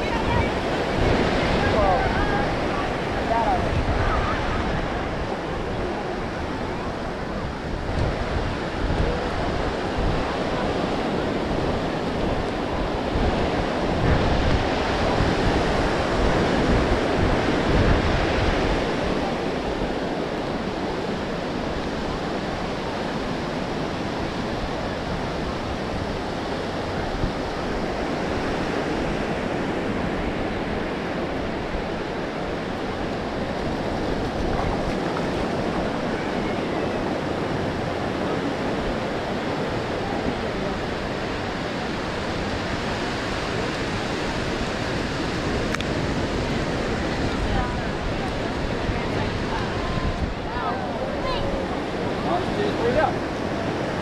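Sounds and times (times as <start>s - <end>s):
ocean surf washing onto beach: 0.0s - 54.0s
wind buffeting microphone: 0.0s - 54.0s.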